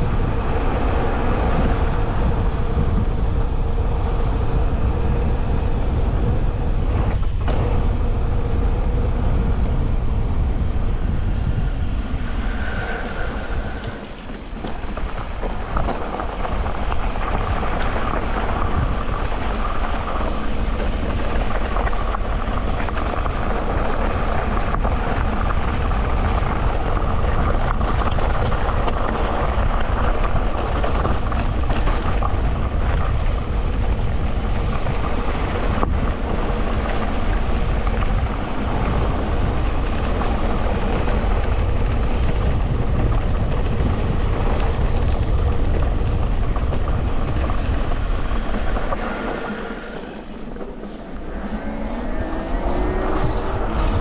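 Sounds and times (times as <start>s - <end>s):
bike tyres rumbling and rattling: 0.0s - 54.0s.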